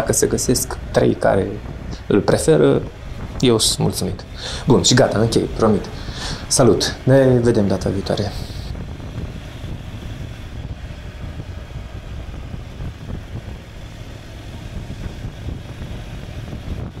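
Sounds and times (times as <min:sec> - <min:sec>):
motorcycle engine rumble: 0:00.0 - 0:17.0
road noise: 0:00.0 - 0:17.0
wind on microphone: 0:00.0 - 0:17.0.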